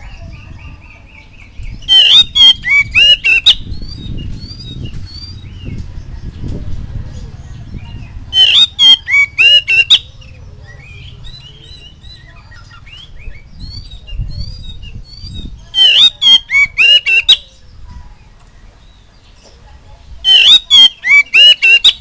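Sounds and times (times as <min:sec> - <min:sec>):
bird song bursts: 0:00.0 - 0:19.6, 0:20.2 - 0:22.0
soft bird twittering: 0:00.0 - 0:22.0.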